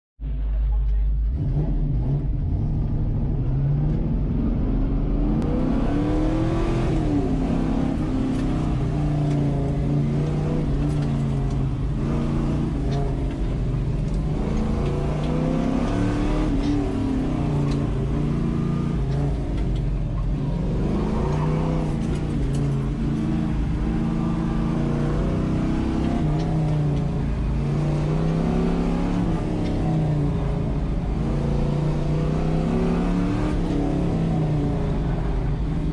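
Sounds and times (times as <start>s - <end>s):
car engine revving: 0.2s - 35.9s.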